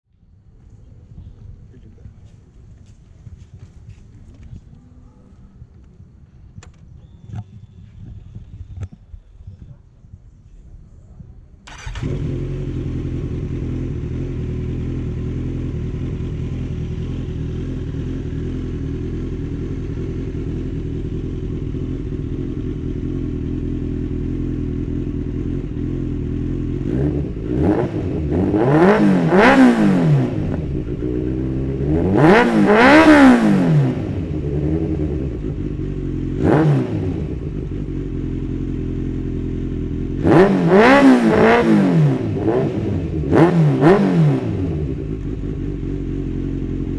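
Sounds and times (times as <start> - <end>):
motorcycle engine idling and revving: 0.2 - 46.9.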